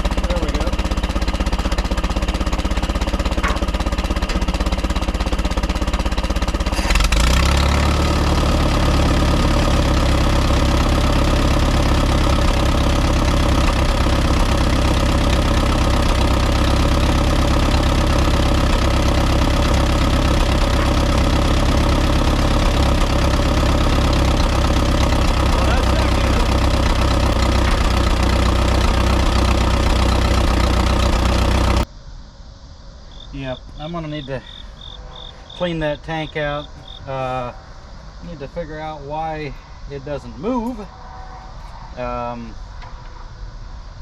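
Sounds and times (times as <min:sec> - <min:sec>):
tractor engine idling: 0:00.0 - 0:31.9, 0:33.1 - 0:43.2.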